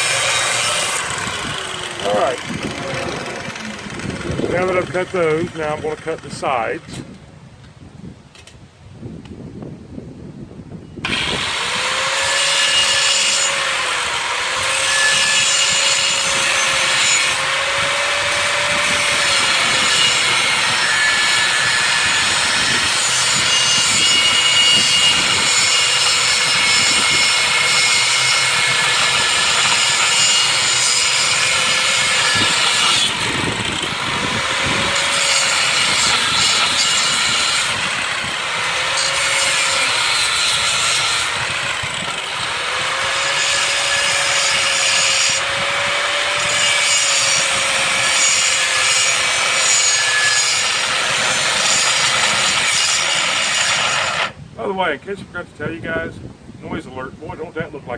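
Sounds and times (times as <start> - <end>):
cut-off wheel cutting steel: 0.0 - 7.0, 11.0 - 54.4.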